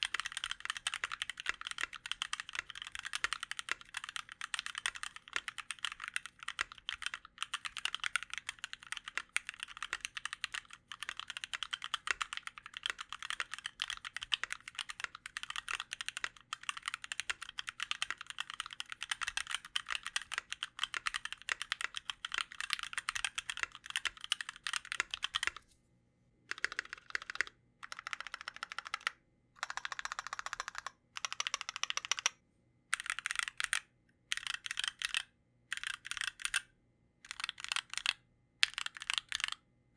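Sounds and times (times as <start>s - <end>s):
fast mechanical keyboard typing: 0.0s - 25.6s, 26.5s - 32.3s, 33.0s - 36.7s, 37.3s - 39.6s.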